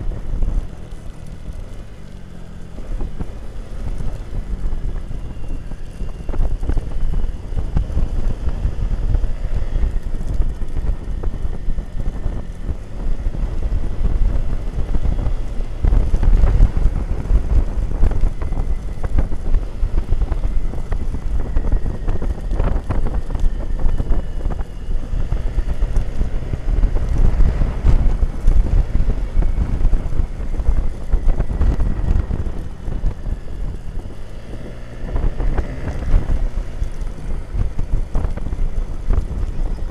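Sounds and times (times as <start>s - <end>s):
faint whine: 0.0s - 39.9s
motorcycle engine: 0.0s - 39.9s
wind buffeting microphone: 0.0s - 39.9s.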